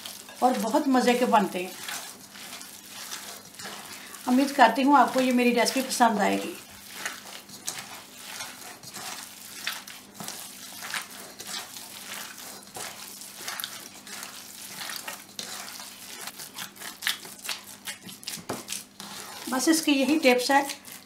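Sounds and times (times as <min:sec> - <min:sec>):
hands squishing wet meat: 0:00.0 - 0:21.0.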